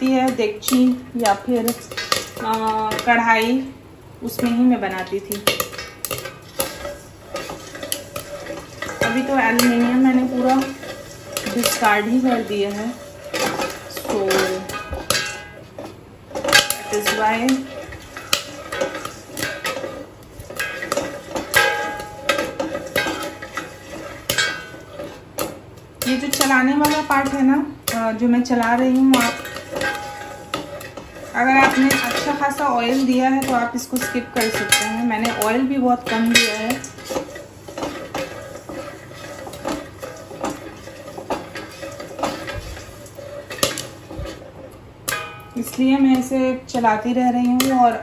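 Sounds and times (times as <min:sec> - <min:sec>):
popcorn popping: 0:00.0 - 0:48.0
spatula stirring kernels: 0:00.0 - 0:48.0.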